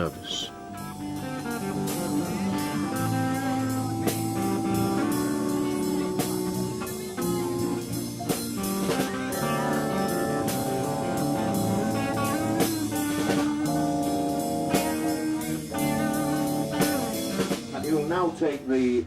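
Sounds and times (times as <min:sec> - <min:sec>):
instrumental music with a beat: 0:00.0 - 0:17.8.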